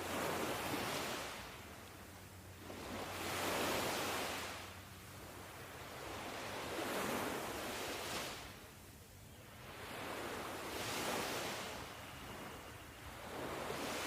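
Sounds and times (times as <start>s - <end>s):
ocean waves washing in: 0.0s - 8.7s, 9.5s - 14.0s.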